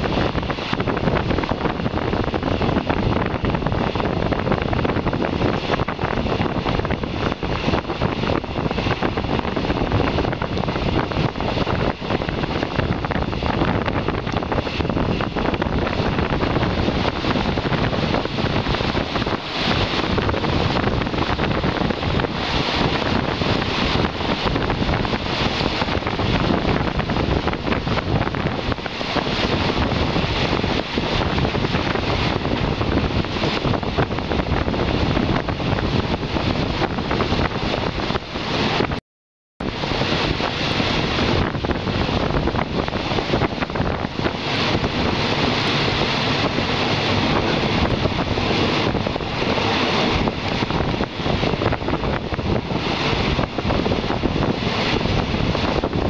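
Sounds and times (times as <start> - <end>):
train running noise: 0.0 - 39.0, 39.6 - 56.0
wind buffeting microphone: 0.0 - 39.0, 39.6 - 56.0.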